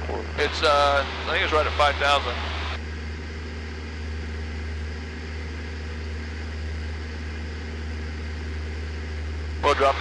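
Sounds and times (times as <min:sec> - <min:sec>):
airplane engine droning: 0:00.0 - 0:10.0.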